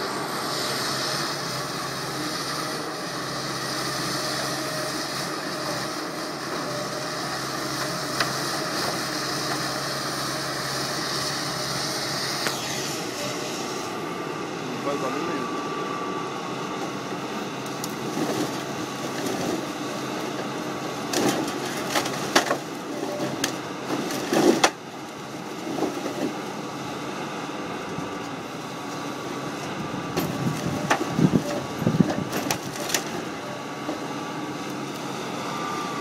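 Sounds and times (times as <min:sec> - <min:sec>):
excavator engine running: 0:00.0 - 0:36.0.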